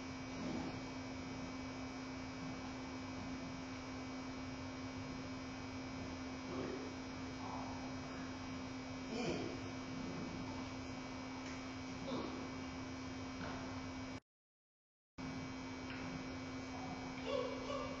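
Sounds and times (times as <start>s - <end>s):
low electrical hum: 0.0s - 14.2s, 15.2s - 18.0s.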